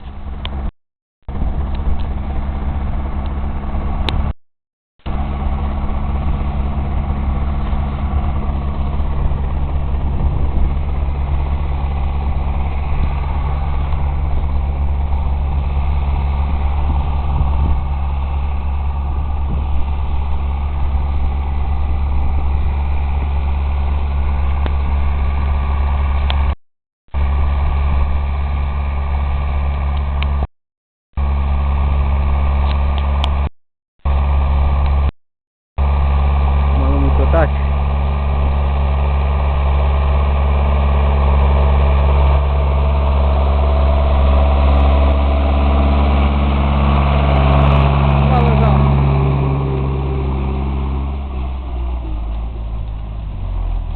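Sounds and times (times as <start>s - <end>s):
tractor diesel engine droning: 0.0s - 0.7s, 1.3s - 4.3s, 5.0s - 30.5s, 31.2s - 35.1s, 35.8s - 53.9s.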